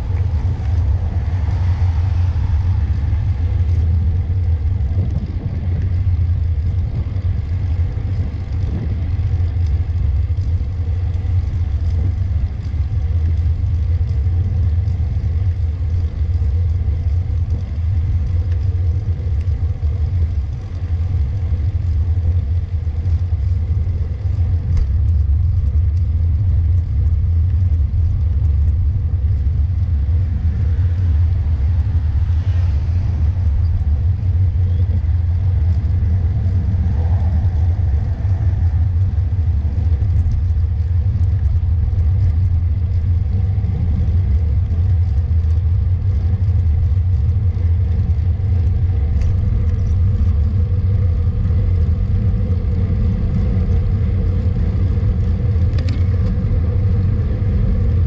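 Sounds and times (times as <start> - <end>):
wind buffeting the microphone: 0.0 - 58.0.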